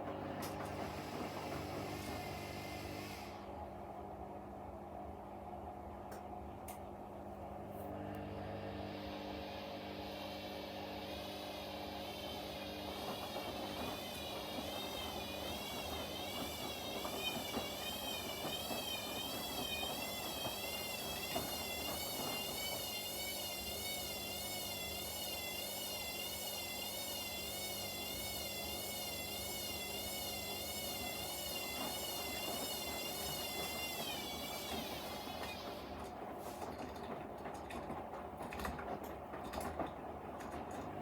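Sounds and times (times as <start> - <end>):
washing machine motor whine: 0.0 - 41.0.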